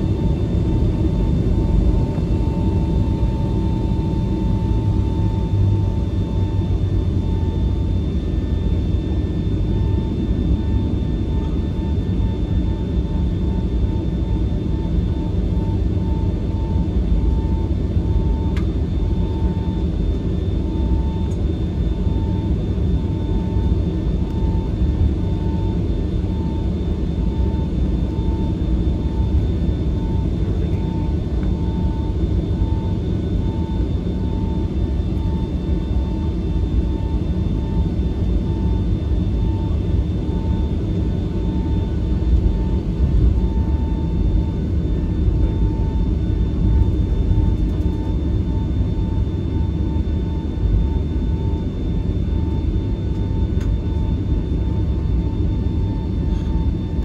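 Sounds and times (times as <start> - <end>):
aircraft engines rumbling at idle: 0.0 - 57.0.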